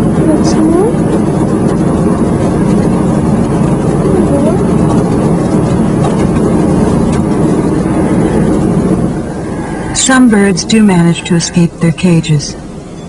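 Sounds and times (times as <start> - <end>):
low even roar: 0.0 - 12.9.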